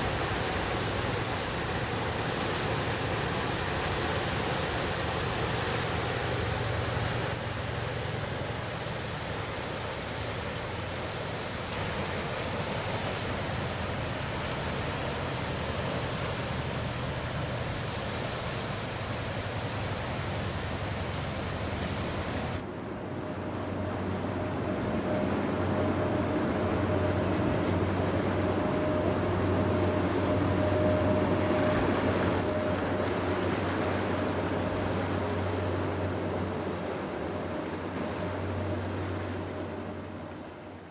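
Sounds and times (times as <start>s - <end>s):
rushing water: 0.0s - 40.9s
ship diesel engine drone: 0.0s - 40.9s.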